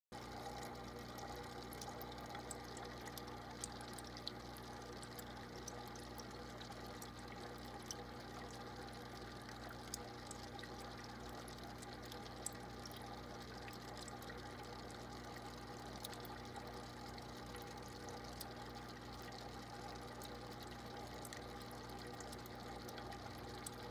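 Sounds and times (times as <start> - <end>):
aquarium filter hum: 0.1 - 23.9
water pouring and trickling: 0.2 - 23.9.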